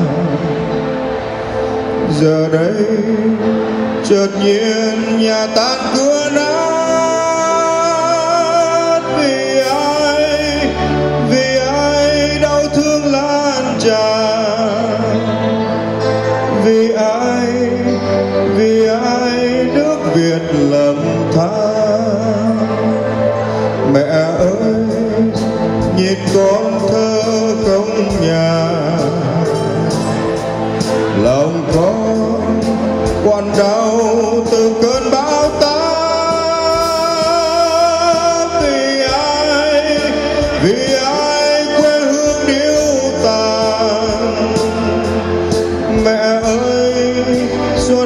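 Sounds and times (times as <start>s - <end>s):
live band over a pa: 0.0s - 48.0s
man singing into a microphone: 0.0s - 48.0s.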